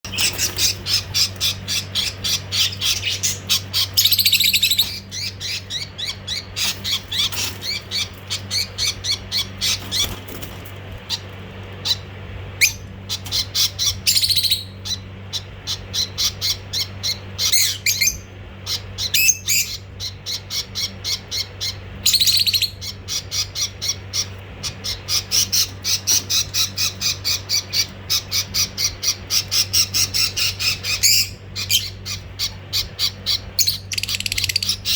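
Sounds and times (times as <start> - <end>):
budgerigars chirping: 0.0 - 34.9
steady low hum: 0.0 - 34.9.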